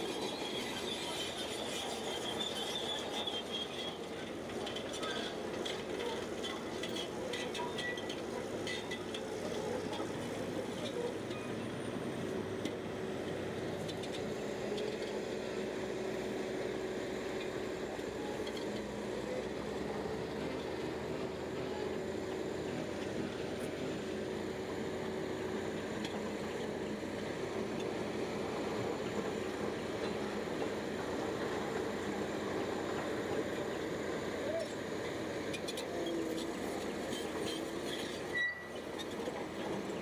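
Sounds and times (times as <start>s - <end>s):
bulldozer engine droning: 0.0s - 40.0s.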